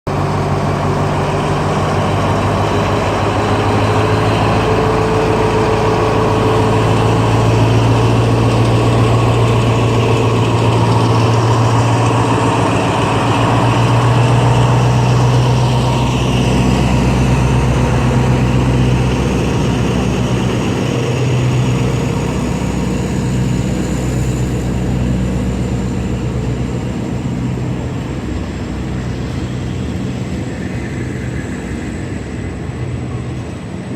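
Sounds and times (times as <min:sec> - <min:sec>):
diesel locomotive engine drone: 0:00.1 - 0:33.9.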